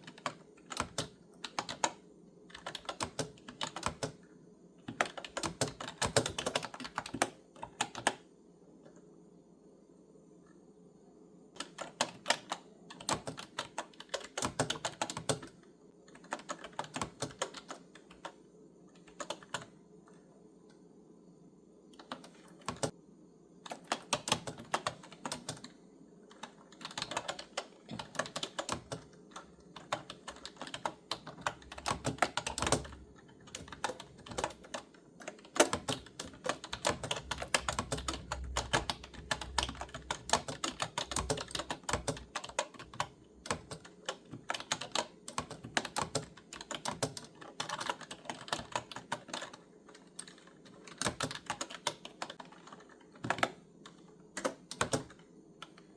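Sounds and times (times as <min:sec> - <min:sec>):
clicky keyboard typing: 0:00.0 - 0:09.1, 0:11.6 - 0:20.8, 0:21.9 - 0:23.0, 0:23.6 - 0:55.9.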